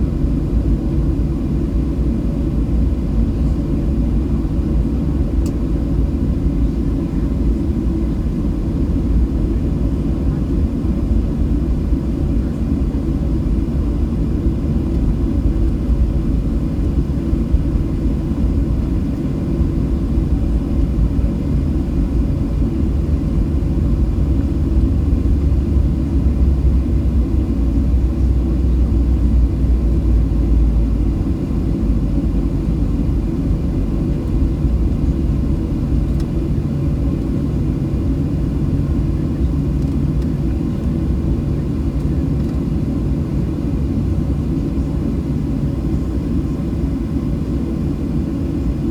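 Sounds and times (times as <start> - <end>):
jet cabin low rumble: 0.0 - 48.9.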